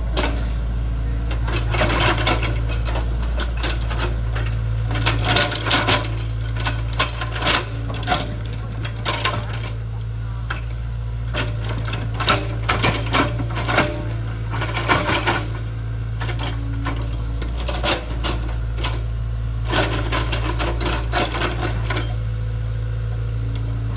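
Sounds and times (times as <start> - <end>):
excavator engine humming: 0.0 - 23.9
metallic clanks and rattles: 0.1 - 0.7, 1.3 - 22.2.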